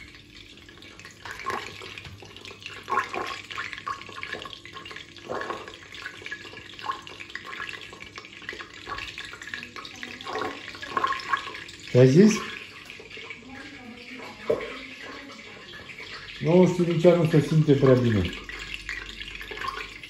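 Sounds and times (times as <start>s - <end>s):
water running from a tap: 0.0s - 20.0s
water splashing in a sink: 0.0s - 20.0s.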